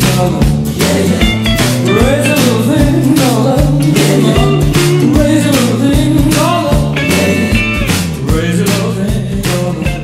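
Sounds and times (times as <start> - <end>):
rock song with drums and bass: 0.0 - 10.0.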